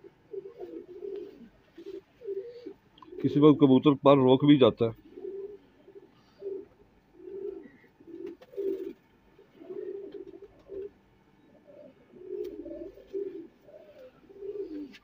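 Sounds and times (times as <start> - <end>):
pigeons cooing: 0.0 - 3.8, 4.9 - 15.0.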